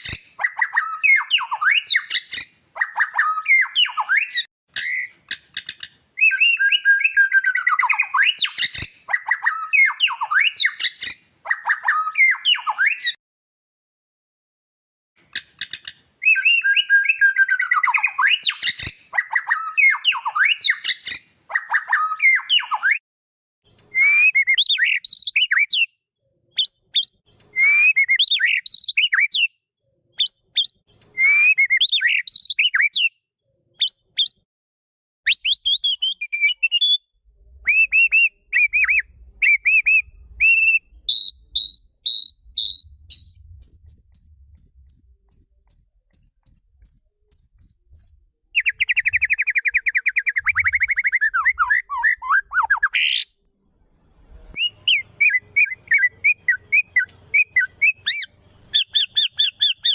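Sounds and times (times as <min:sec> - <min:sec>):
songbird whistling and chattering: 0:00.0 - 0:13.2, 0:15.4 - 0:23.0, 0:23.8 - 0:26.0, 0:26.6 - 0:29.5, 0:30.2 - 0:33.1, 0:33.8 - 0:34.4, 0:35.3 - 0:59.9.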